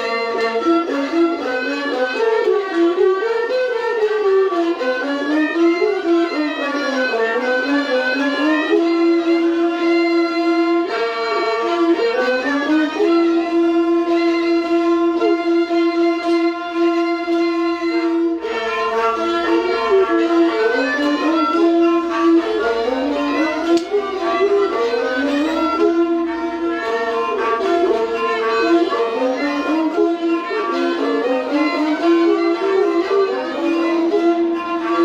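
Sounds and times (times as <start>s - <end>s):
bowed string instrument melody: 0.0s - 35.0s.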